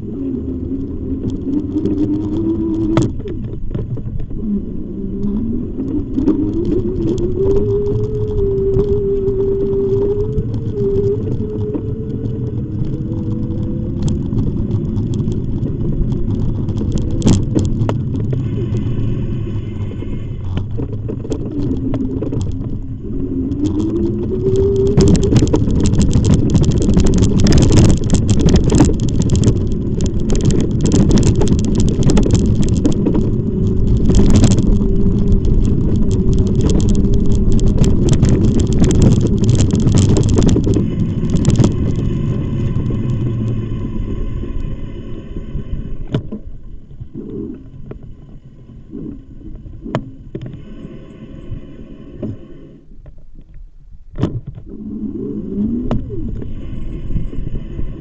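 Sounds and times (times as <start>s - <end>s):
wind buffeting: 0.0s - 52.7s
road noise: 0.0s - 52.8s
steady rumble: 0.0s - 58.0s.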